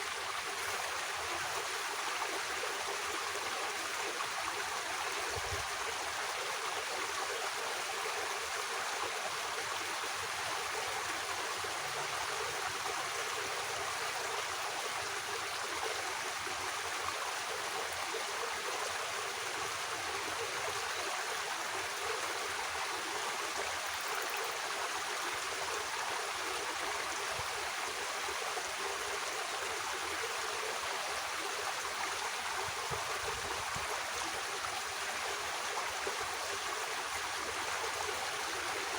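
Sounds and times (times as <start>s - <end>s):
water running in a ditch: 0.0s - 38.9s.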